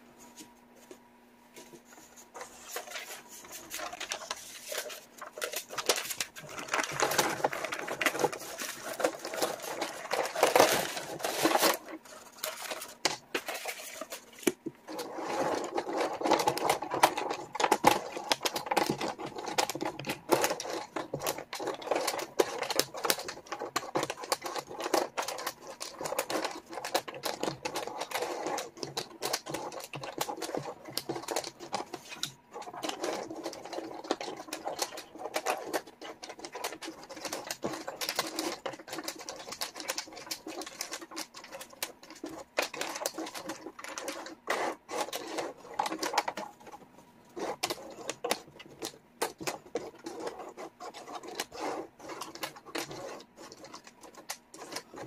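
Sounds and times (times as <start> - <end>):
wooden jigsaw pieces clattering: 2.4 - 55.0.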